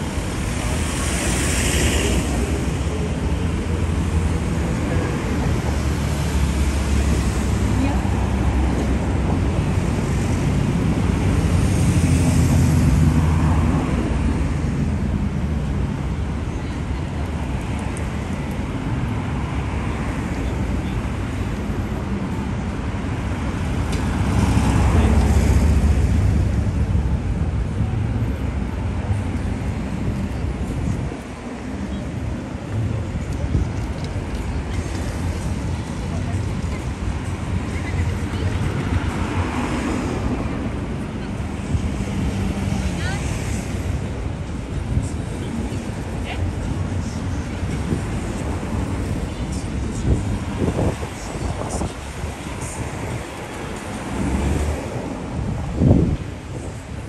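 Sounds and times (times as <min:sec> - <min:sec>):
city street rumble and hiss: 0:00.0 - 0:57.0.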